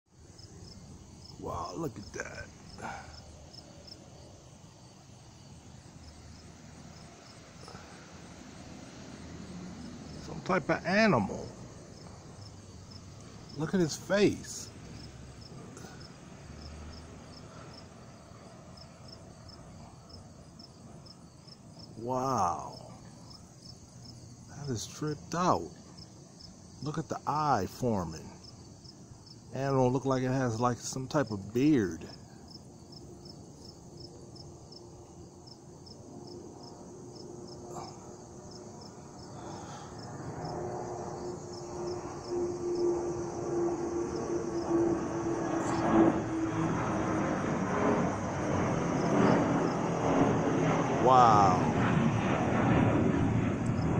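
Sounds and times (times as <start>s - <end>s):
cricket chirping: 0.1s - 53.9s
distant engine drone: 0.2s - 53.9s.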